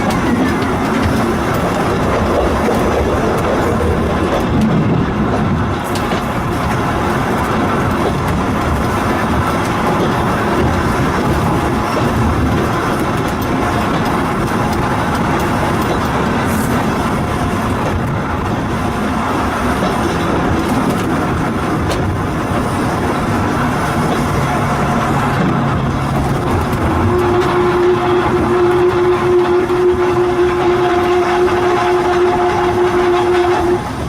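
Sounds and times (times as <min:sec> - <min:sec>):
wheels rumbling on rail: 0:00.0 - 0:34.0.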